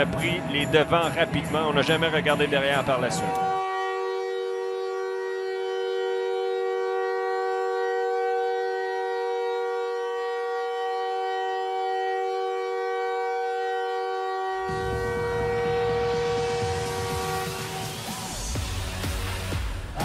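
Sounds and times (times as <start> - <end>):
electronic drone chord: 0.0 - 19.6.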